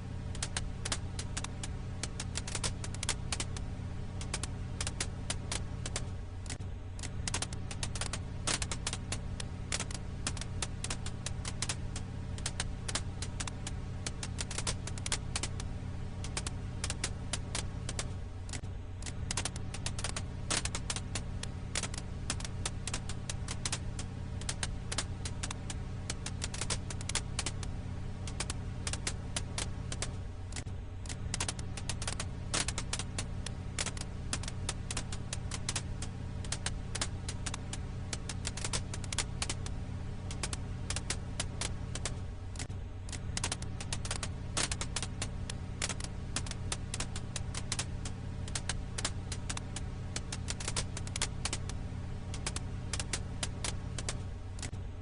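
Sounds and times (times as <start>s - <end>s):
low hum: 0.0s - 55.0s
wood fire crackling: 0.0s - 55.0s.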